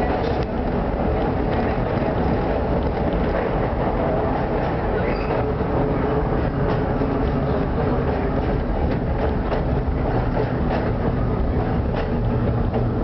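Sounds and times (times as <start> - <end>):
subway car rumbling on rails: 0.0 - 13.0.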